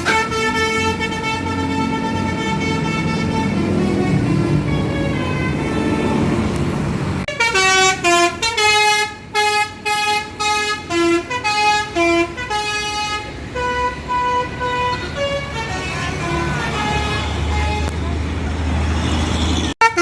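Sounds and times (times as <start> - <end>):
musical air horn playing a tune: 0.0 - 6.4, 7.3 - 17.9, 19.8 - 20.0.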